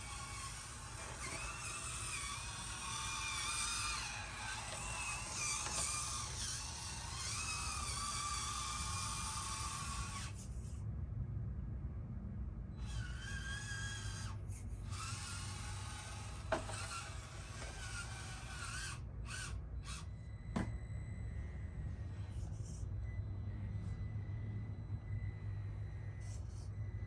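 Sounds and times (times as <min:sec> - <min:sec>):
toy truck motor whining: 0:00.0 - 0:10.8, 0:12.7 - 0:27.0.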